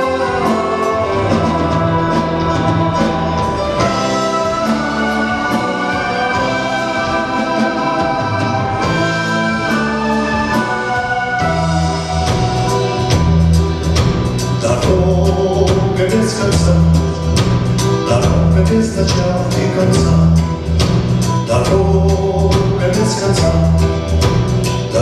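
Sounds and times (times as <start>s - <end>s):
bass: 0.0s - 25.0s
drums and cymbals beat: 0.0s - 25.0s
keyboard chords: 0.0s - 25.0s.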